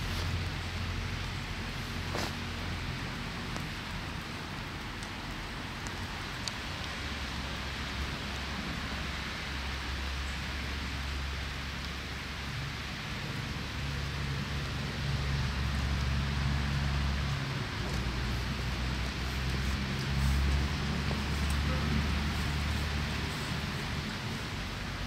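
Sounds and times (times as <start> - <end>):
steady rain hiss: 0.0 - 25.0
faint drip ticks: 2.6 - 8.6, 10.1 - 24.5.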